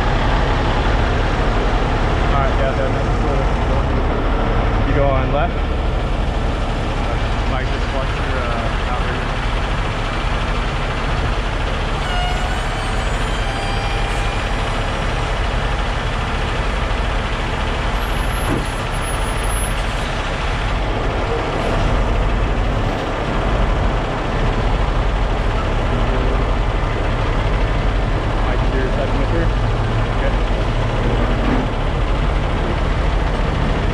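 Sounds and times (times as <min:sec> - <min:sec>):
diesel truck engines rumbling: 0:00.0 - 0:33.9.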